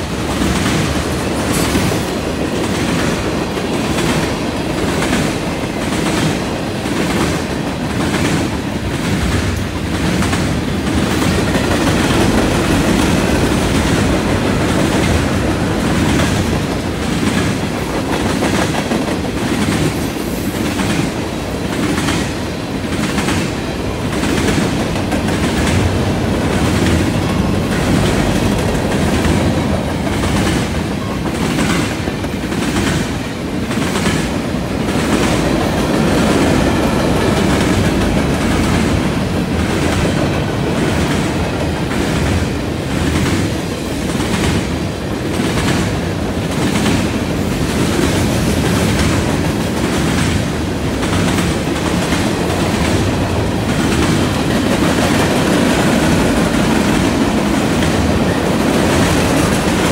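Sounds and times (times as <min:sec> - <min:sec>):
freight train rumbling past: 0:00.0 - 0:59.9
train wheels clacking on rail joints: 0:00.0 - 0:59.9.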